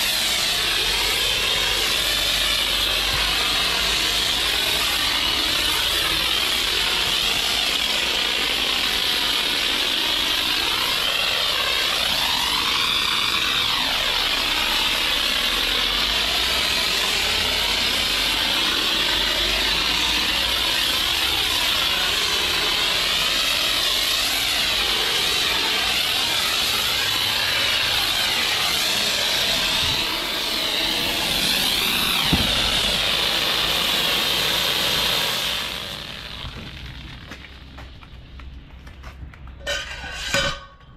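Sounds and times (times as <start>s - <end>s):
pressure washer spraying hiss: 0.0s - 37.9s.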